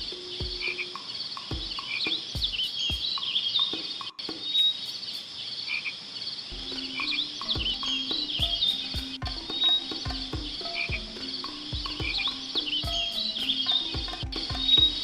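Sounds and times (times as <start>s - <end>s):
high chirps and trills: 0.0s - 5.4s, 6.5s - 15.0s.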